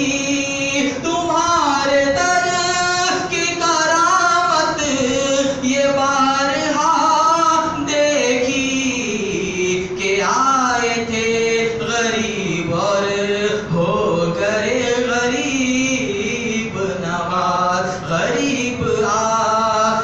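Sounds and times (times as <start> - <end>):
man chanting into microphone: 0.0 - 20.0.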